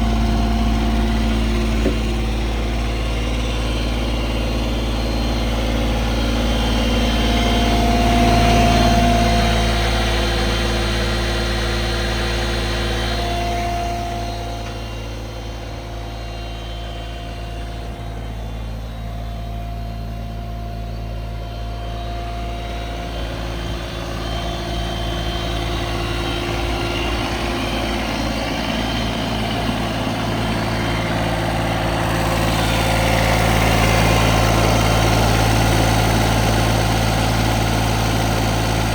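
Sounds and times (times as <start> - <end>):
small diesel engine idling: 0.0 - 38.9
thin whine: 0.0 - 38.9.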